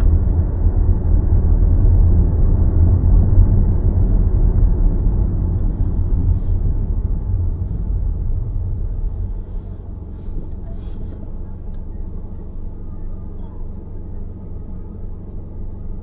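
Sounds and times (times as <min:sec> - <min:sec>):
car driving road noise: 0:00.0 - 0:16.0.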